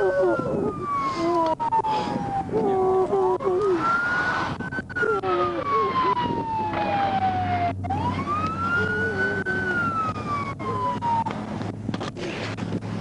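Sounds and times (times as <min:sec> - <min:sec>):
police siren wailing: 0:00.0 - 0:11.8.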